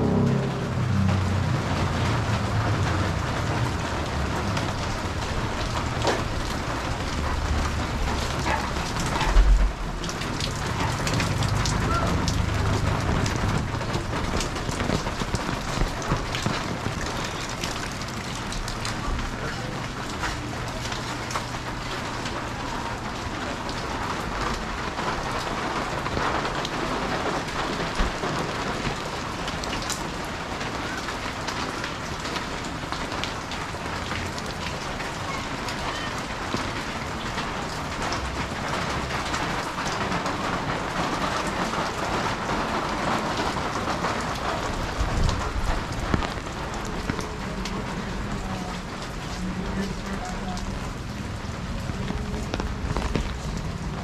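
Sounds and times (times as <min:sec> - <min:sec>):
steady rain hiss: 0:00.1 - 0:54.0.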